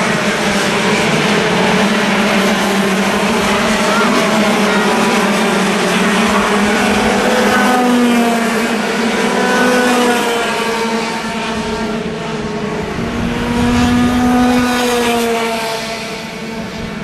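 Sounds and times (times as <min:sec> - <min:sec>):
racing kart engines: 0:00.0 - 0:17.0.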